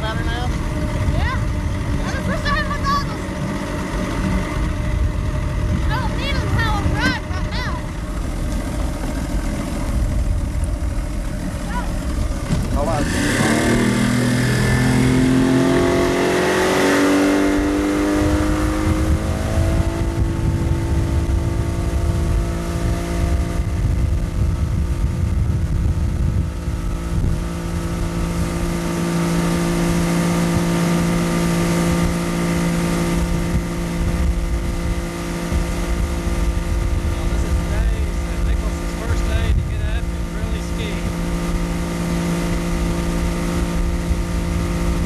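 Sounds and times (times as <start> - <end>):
outboard motor running: 0.0 - 45.0.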